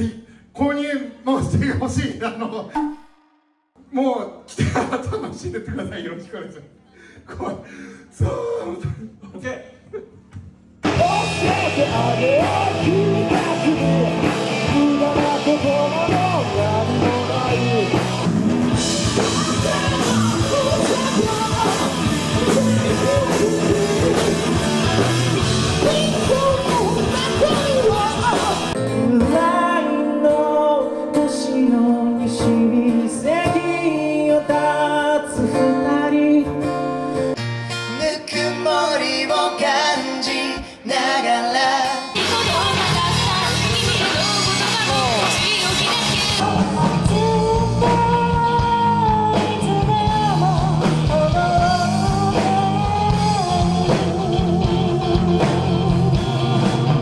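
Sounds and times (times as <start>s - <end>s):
live band with lead singer: 10.8s - 57.0s.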